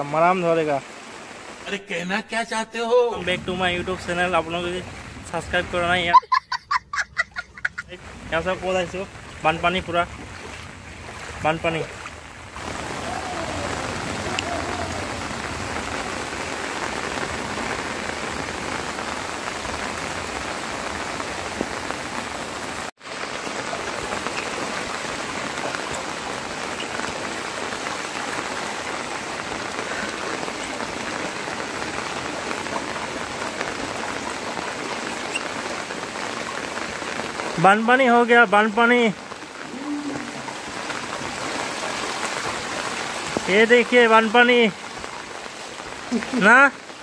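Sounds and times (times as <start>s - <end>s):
rain falling on water: 0.0s - 47.0s.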